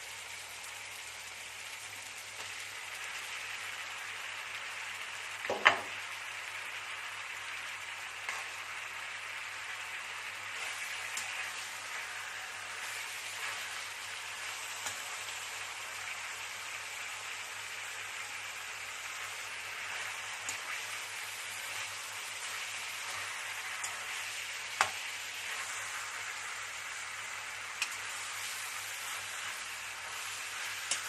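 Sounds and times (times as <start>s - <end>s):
food sizzling in a pan: 0.0s - 31.0s.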